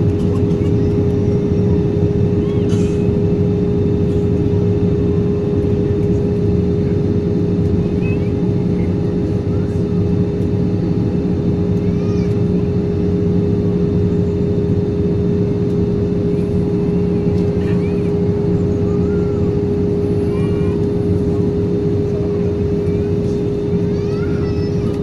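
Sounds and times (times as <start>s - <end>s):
aircraft cabin engine drone: 0.0s - 25.0s
constant hum: 0.0s - 25.0s.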